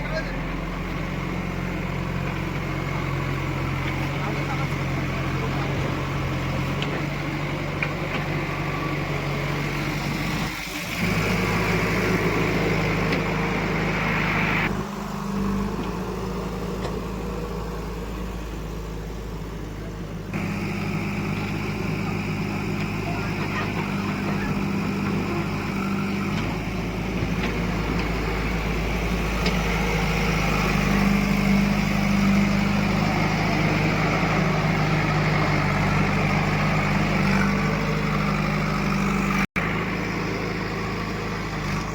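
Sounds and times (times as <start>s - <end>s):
diesel machinery engines running: 0.0s - 41.9s.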